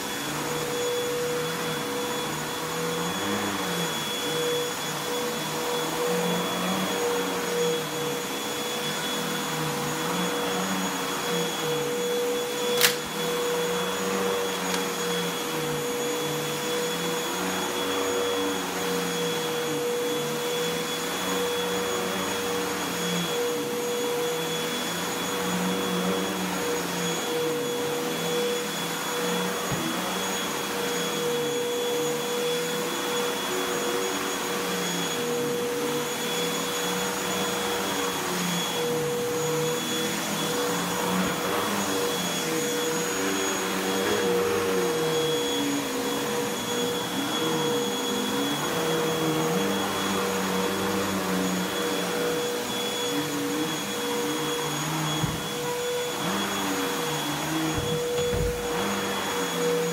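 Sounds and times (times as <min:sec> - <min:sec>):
vacuum cleaner on carpet: 0:00.0 - 0:59.9.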